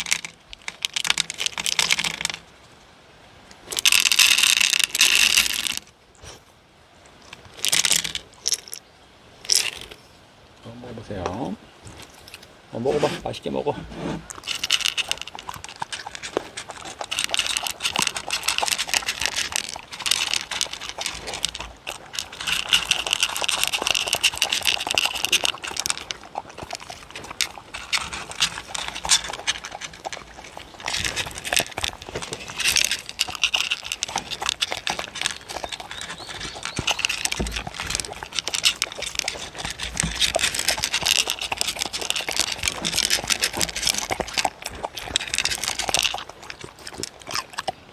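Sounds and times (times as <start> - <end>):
dogs crunching dry kibble: 0.0 - 2.5, 3.6 - 6.4, 7.4 - 8.8, 9.5 - 10.0, 14.3 - 47.9.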